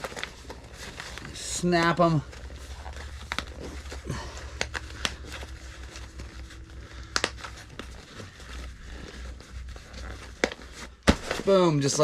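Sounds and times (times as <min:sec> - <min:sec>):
fabric rustling: 0:00.0 - 0:12.0
low steady hum: 0:00.0 - 0:12.0.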